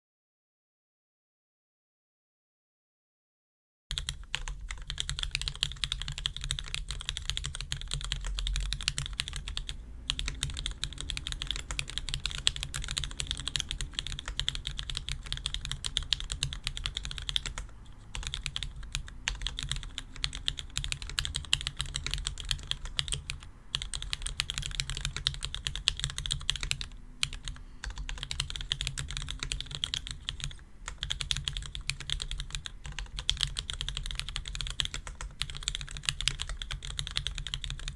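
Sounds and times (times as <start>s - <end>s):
fast mechanical keyboard typing: 3.9s - 37.9s.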